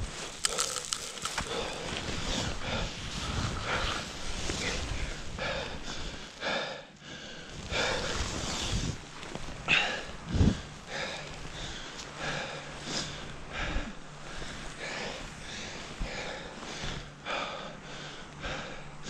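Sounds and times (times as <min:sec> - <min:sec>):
person panting: 0:00.4 - 0:08.6, 0:09.7 - 0:19.0.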